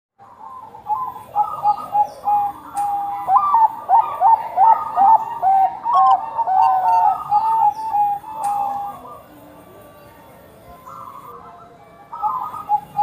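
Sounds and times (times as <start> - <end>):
doves cooing: 0.2 - 9.8, 10.7 - 13.0.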